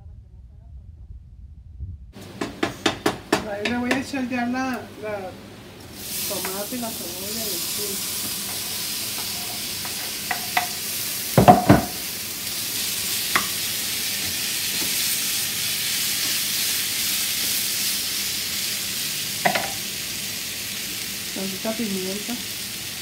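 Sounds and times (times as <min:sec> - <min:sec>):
rice sizzling in a frying pan: 0:03.5 - 0:23.0.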